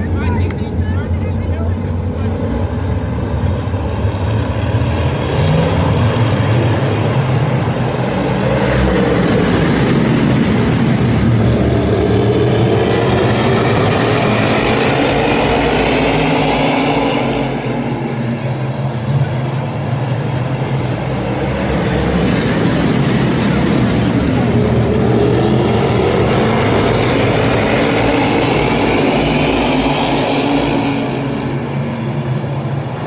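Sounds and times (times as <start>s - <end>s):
race car engines passing: 0.0s - 33.0s.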